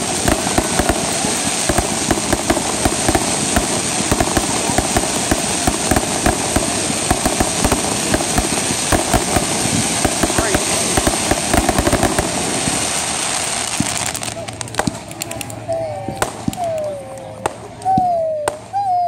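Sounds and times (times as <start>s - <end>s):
firework crackling: 0.0s - 19.0s
firework fountain hissing: 0.0s - 19.0s.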